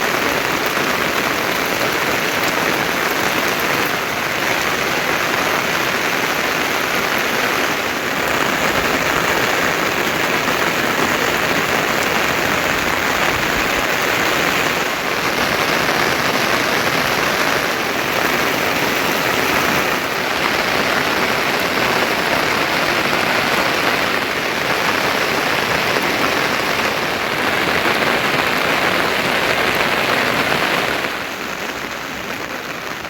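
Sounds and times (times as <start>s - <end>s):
heavy rain hissing: 0.0s - 33.0s.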